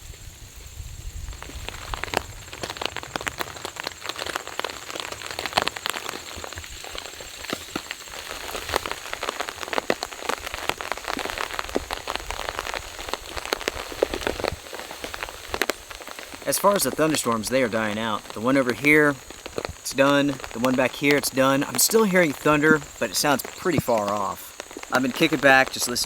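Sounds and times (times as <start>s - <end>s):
rain drops tapping on a tarp: 0.0s - 26.0s
steady rain hiss: 0.0s - 26.0s.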